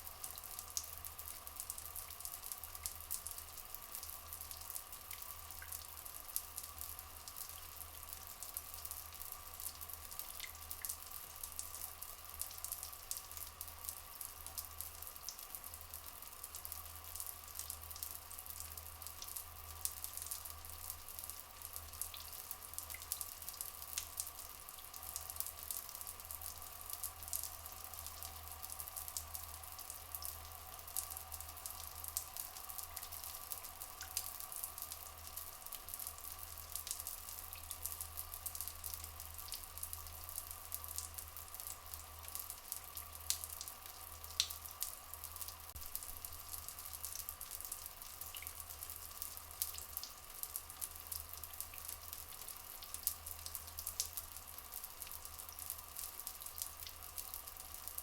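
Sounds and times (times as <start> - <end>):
water trickling and dripping: 0.0 - 58.0.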